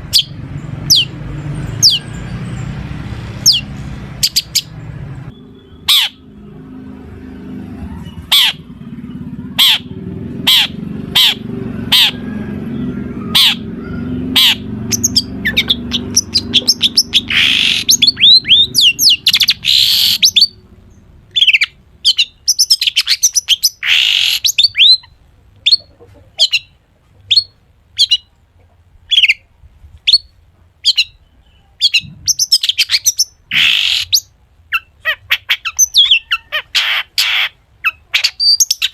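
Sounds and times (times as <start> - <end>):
bird singing mimicry song: 0.0 - 28.4, 29.1 - 38.9.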